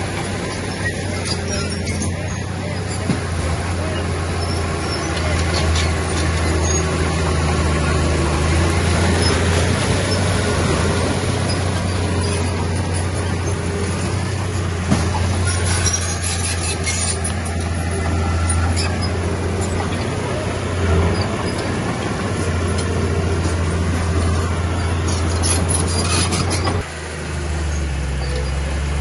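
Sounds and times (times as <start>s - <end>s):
diesel engine of heavy machinery: 0.0s - 29.0s
high clicks and squeaks: 0.1s - 26.9s.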